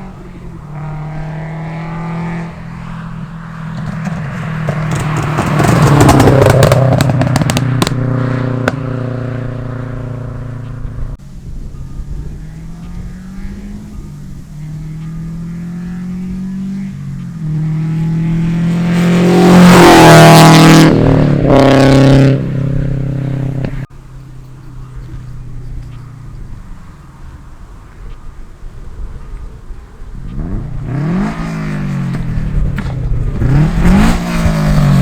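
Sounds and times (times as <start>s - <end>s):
car exhaust accelerating past: 0.0s - 35.0s.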